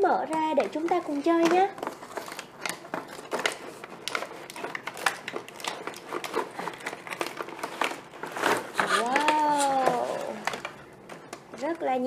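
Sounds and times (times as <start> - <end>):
cardboard box crinkling: 0.3 - 12.0.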